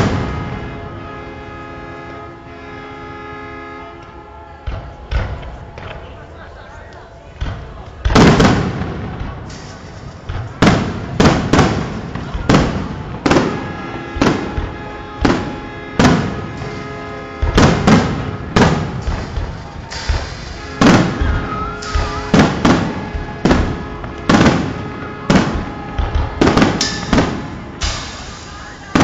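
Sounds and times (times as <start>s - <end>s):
fireworks bursting with bangs: 0.0s - 3.6s, 4.5s - 29.0s.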